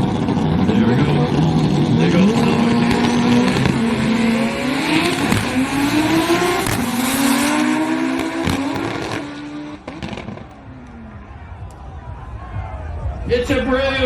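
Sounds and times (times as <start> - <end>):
race cars accelerating: 0.0 - 11.3.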